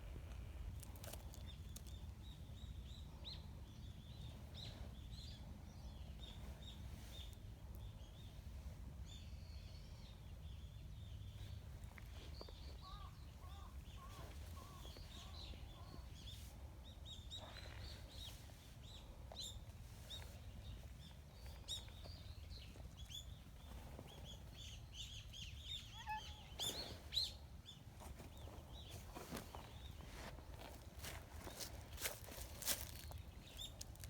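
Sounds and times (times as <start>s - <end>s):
small birds chirping: 0.8s - 34.0s.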